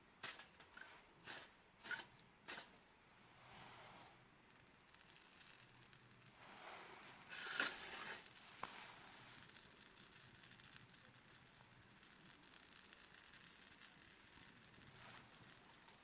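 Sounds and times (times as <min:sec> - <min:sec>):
faint rustling and scraping: 0:00.0 - 0:09.9, 0:10.8 - 0:16.0.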